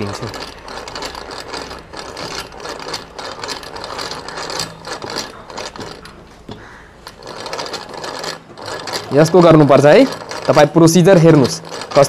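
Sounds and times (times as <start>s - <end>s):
hand drill whirring rattle: 0.0s - 12.0s.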